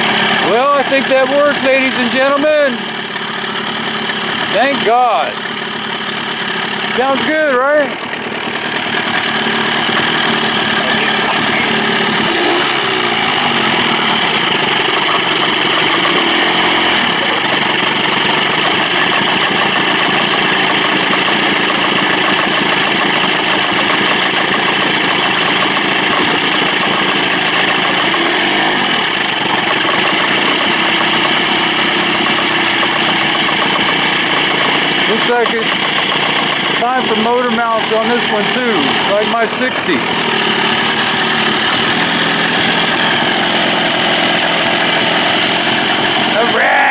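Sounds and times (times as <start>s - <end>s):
outboard motor idling: 0.0s - 46.9s.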